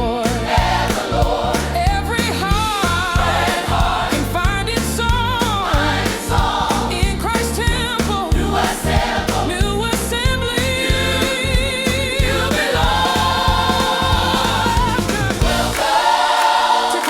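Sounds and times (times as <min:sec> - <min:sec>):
choir singing over a beat: 0:00.0 - 0:17.0.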